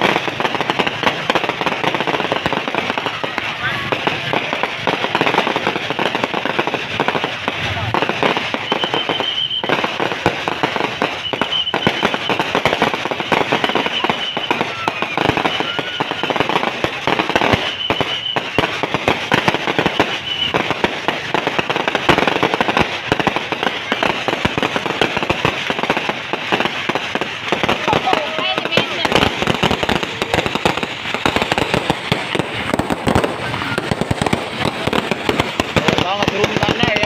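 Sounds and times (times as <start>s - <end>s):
firecrackers crackling and popping: 0.0s - 37.0s
firework whistles: 0.0s - 37.0s.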